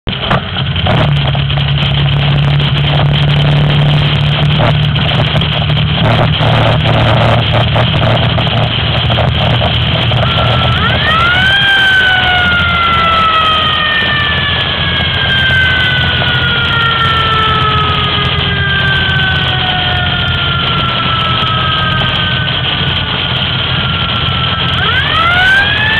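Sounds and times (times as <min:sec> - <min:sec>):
fire engine engine running: 0:00.0 - 0:25.9
road noise: 0:00.0 - 0:25.9
knocks and rattles: 0:00.1 - 0:25.9
siren wailing: 0:01.3 - 0:25.9.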